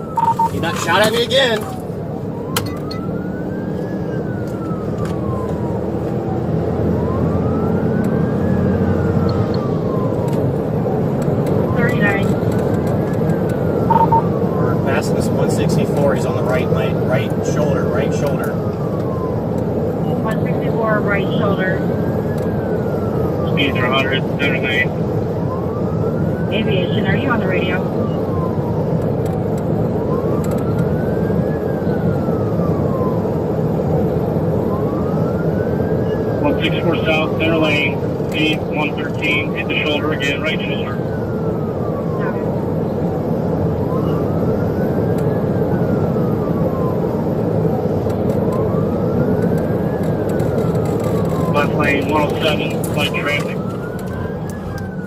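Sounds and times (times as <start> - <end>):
car engine and road noise: 0.0 - 55.0
police siren wailing: 0.0 - 55.0.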